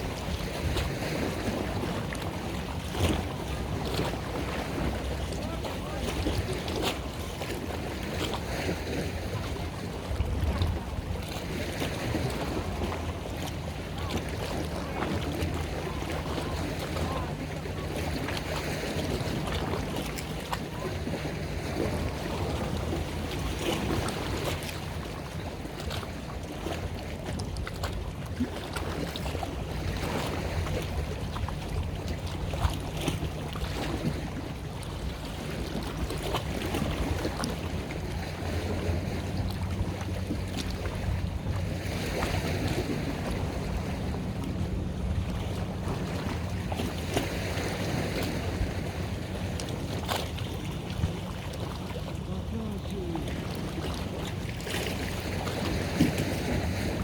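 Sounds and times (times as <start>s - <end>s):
boat engine humming: 0.0s - 57.0s
water washing around hull: 0.0s - 57.0s
wind buffeting microphone: 0.0s - 57.0s.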